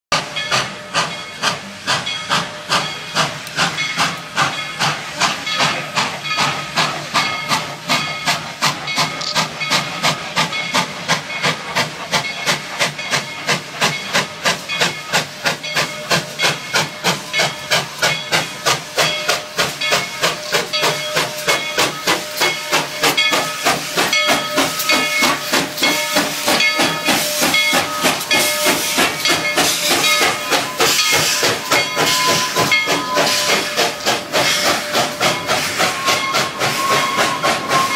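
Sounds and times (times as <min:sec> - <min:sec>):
steam locomotive chuffing: 0:00.1 - 0:37.9.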